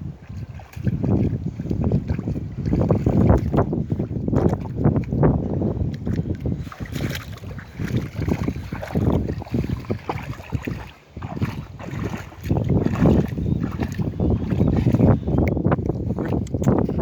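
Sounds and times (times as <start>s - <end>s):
gusty wind on microphone: 0.0s - 17.0s.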